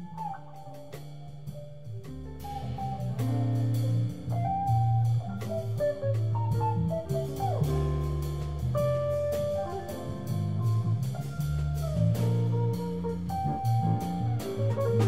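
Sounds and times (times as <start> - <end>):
cellos playing low notes: 0.0 - 15.0
drum kit: 0.0 - 15.0
electric bass: 0.0 - 15.0.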